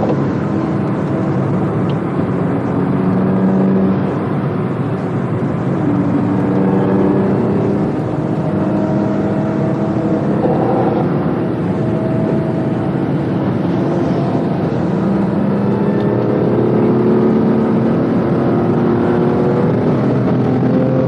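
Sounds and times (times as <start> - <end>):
car engine under hard driving: 0.0 - 21.0
road and wind noise: 0.0 - 21.0.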